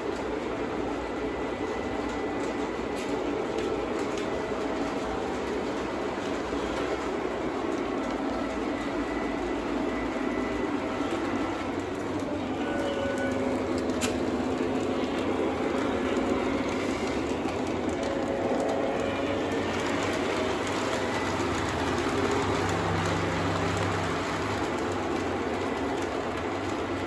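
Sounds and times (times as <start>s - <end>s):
model train wheels rumbling on rails: 0.0s - 27.0s.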